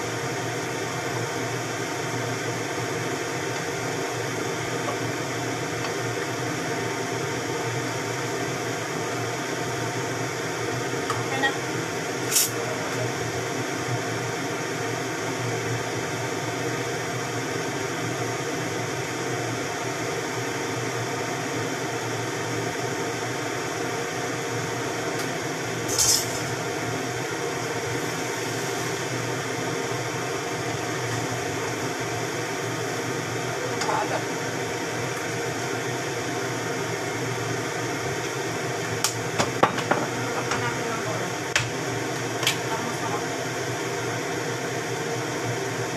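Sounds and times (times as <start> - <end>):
appliances humming: 0.0 - 45.9.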